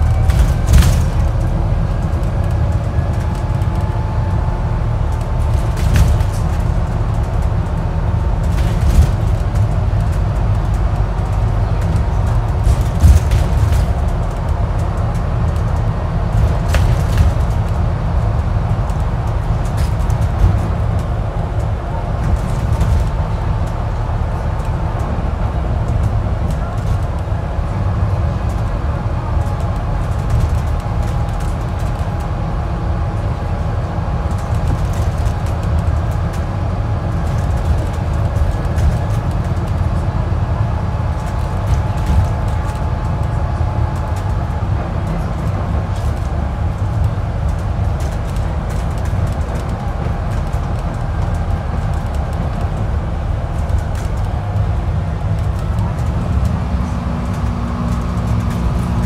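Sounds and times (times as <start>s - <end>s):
bus engine and road rumble: 0.0s - 59.0s
interior rattles and clicks: 0.0s - 59.0s.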